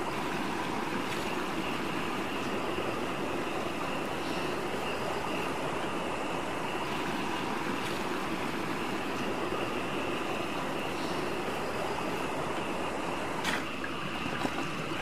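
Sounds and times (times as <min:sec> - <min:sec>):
water rushing among rocks: 0:00.0 - 0:15.0.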